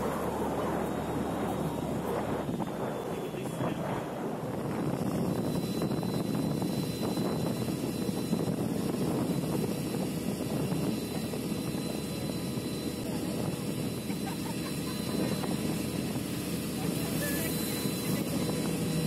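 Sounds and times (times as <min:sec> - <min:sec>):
speedboat engine running: 0:00.0 - 0:19.0.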